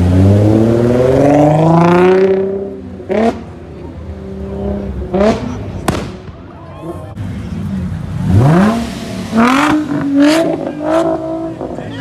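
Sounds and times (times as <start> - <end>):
car engine revving: 0.0 - 6.2, 6.8 - 12.0.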